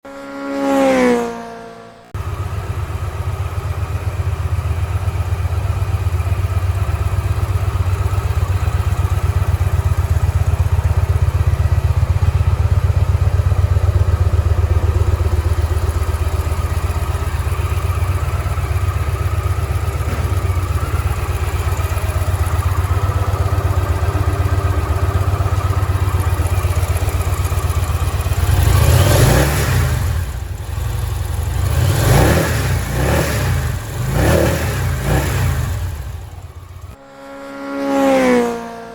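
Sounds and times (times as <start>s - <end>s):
motorcycle engine idling: 2.2s - 38.8s.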